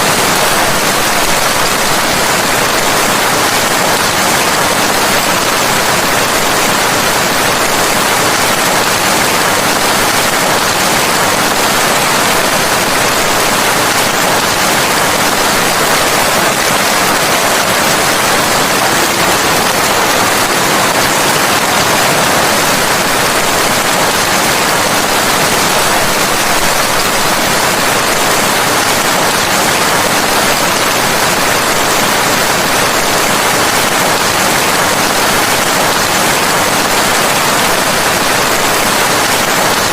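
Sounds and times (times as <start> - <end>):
loud steady rain: 0.0 - 39.9.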